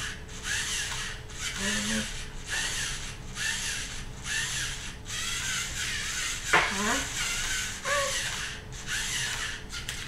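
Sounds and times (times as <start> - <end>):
servo motors whirring: 0.0 - 10.0.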